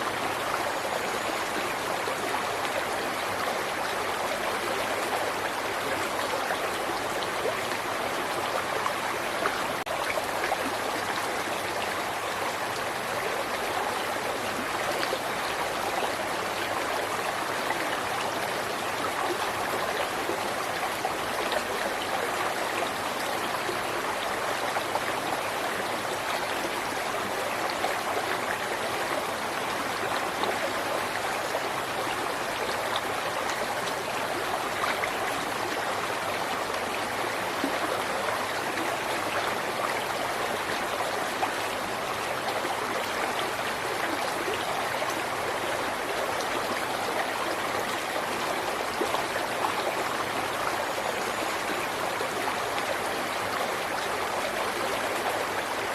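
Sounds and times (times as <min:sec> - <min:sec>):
river water flowing over rocks: 0:00.0 - 0:55.9.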